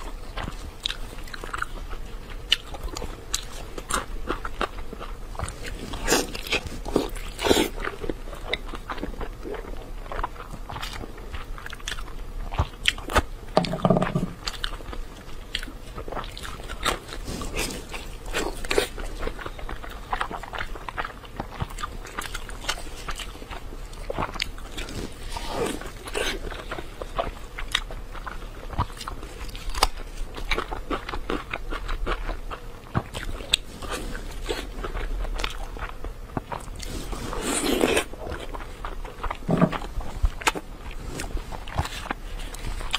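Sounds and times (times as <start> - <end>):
person chewing meat: 0.0 - 42.9.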